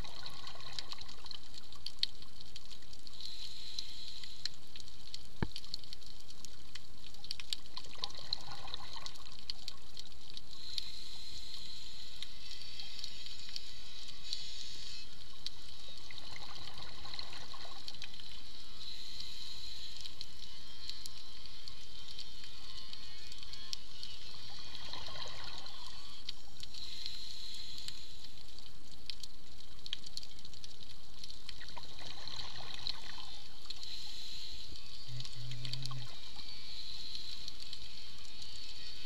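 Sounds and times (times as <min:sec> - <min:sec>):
underwater water hiss: 0:00.0 - 0:06.8, 0:07.9 - 0:30.4, 0:31.1 - 0:39.0.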